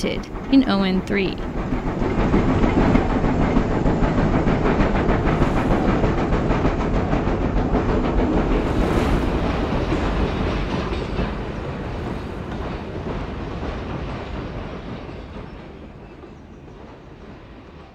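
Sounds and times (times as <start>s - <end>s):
train rumbling with rail clatter: 0.0s - 17.9s.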